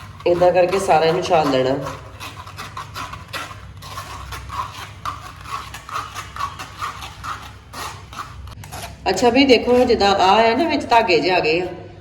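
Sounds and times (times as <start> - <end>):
pulp scraping through a strainer: 0.0 - 11.8.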